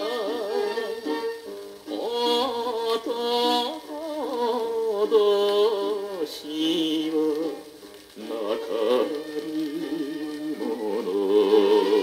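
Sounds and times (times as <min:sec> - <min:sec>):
popular song from vinyl record: 0:00.0 - 0:12.0.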